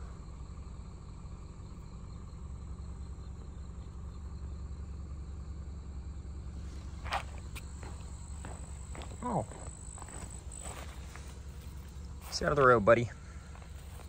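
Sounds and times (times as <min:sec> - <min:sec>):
car engine idling: 0:00.0 - 0:14.0
insects chorus: 0:00.0 - 0:14.0.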